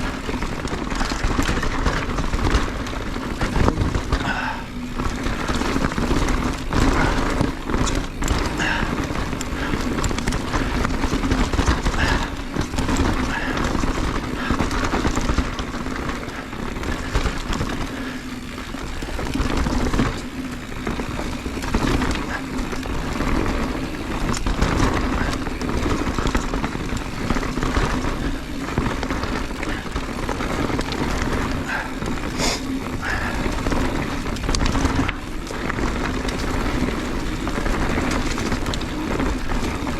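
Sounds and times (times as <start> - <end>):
bike rattling and knocking: 0.0 - 39.9
tyres rumbling over rock: 0.0 - 39.9.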